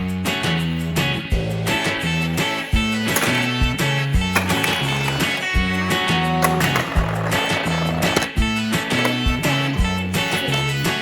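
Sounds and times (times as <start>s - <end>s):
upbeat music with guitar and drums: 0.0s - 11.0s.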